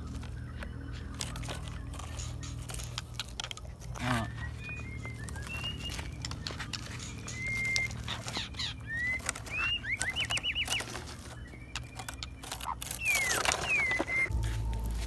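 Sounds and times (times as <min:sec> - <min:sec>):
steady low hum: 0:00.0 - 0:12.4, 0:14.1 - 0:15.0
scattered clicks: 0:00.0 - 0:14.9
birds chirping: 0:00.0 - 0:15.0.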